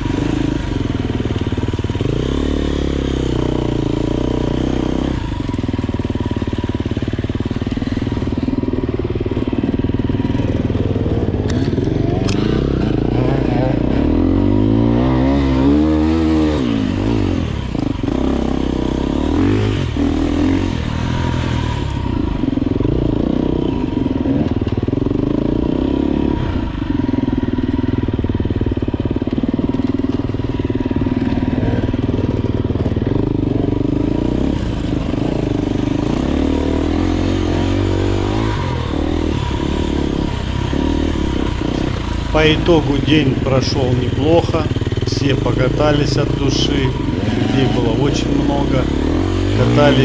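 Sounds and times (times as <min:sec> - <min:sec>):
dirt bike engine revving: 0:00.0 - 0:27.7, 0:33.8 - 0:50.0.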